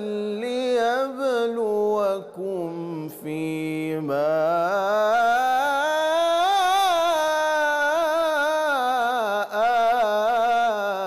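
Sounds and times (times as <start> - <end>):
man reciting in melismatic chant: 0.0 - 11.0.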